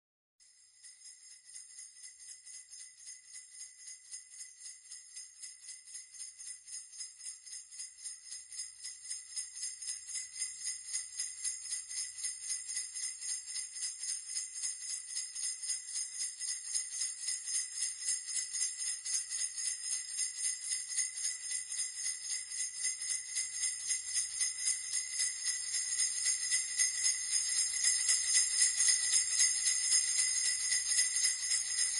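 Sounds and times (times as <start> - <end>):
sleigh bells shaken: 0.4 - 31.9.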